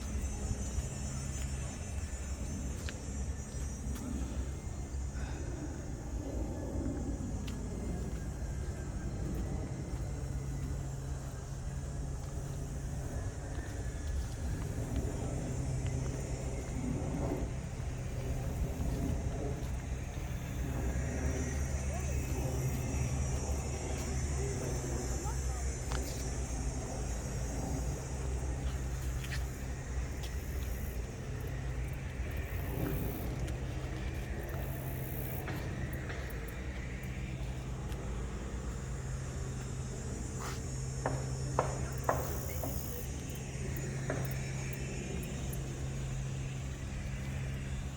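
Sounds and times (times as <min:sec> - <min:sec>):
constant low hum: 0:00.0 - 0:47.9
low outdoor rumble: 0:00.0 - 0:47.9.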